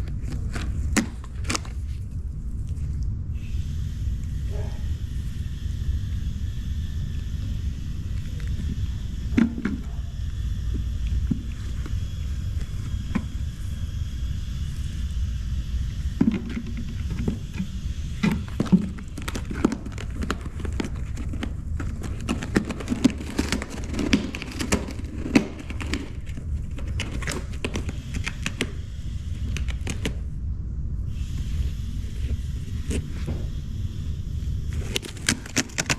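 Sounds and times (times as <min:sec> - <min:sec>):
steady low rumble: 0:00.0 - 0:35.8.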